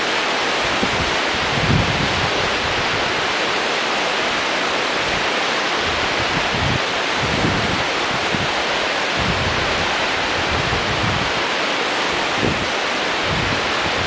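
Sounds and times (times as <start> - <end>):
wind buffeting microphone: 0.0 - 3.6, 4.3 - 14.0
whitewater rapids rushing: 0.0 - 14.0.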